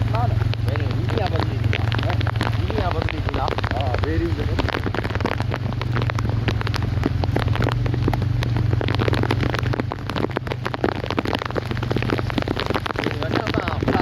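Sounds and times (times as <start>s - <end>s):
rain pattering on hard surfaces: 0.0s - 14.0s.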